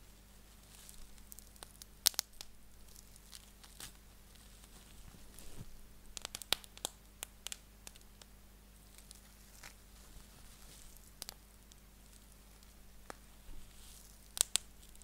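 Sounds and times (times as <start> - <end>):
bubble wrap popping: 0.0 - 15.0
plastic crinkling: 0.5 - 8.1, 8.9 - 15.0.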